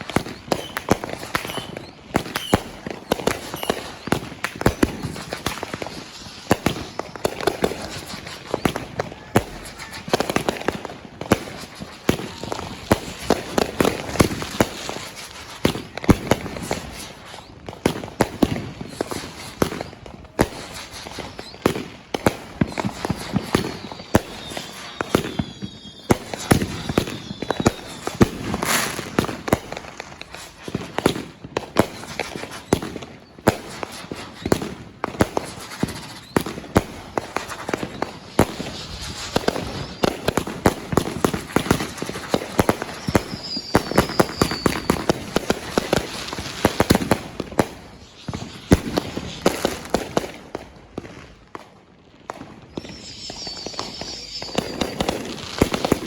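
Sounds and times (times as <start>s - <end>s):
firework whistles gliding in pitch: 0.0s - 56.0s
fireworks bangs and crackling: 0.0s - 56.0s.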